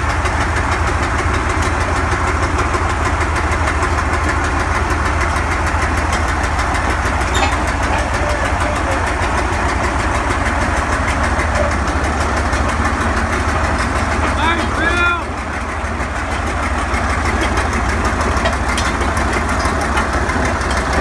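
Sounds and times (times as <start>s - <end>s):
diesel crawler engines running: 0.0s - 21.0s.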